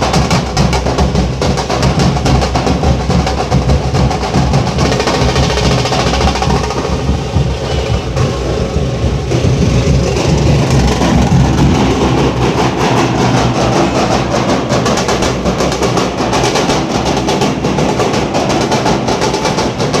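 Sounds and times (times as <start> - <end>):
barrel drum beats: 0.0 - 20.0
fast sharp drum strokes: 0.0 - 20.0.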